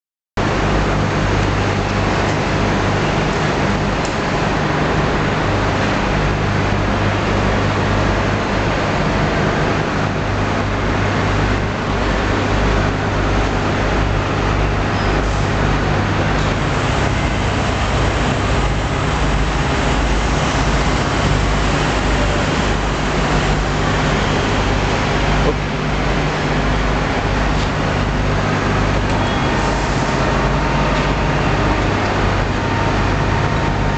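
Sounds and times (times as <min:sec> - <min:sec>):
hydraulic power unit humming: 0:00.4 - 0:33.9.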